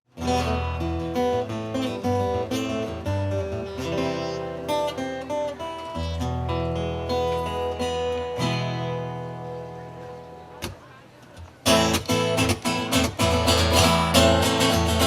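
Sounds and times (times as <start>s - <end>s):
acoustic guitar music: 0.1s - 15.0s.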